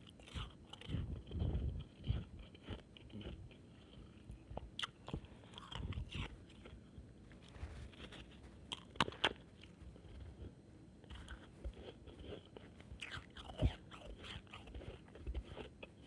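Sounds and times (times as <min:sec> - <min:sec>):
chewing and crunching ice: 0:00.0 - 0:06.9, 0:07.9 - 0:16.0.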